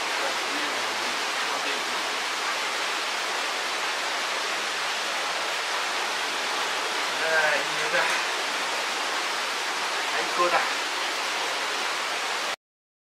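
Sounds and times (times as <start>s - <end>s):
running water rushing: 0.0s - 12.6s.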